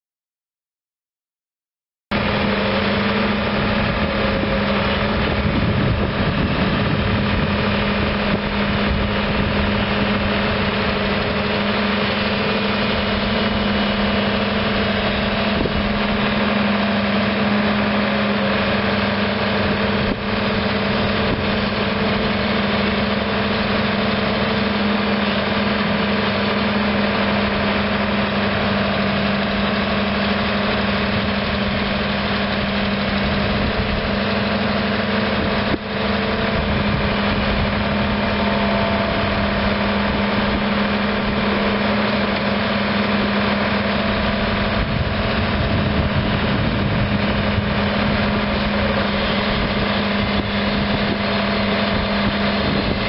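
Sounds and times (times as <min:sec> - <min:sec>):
excavator diesel engine running: 0:02.1 - 0:53.0
hydraulic boom working: 0:02.1 - 0:53.0.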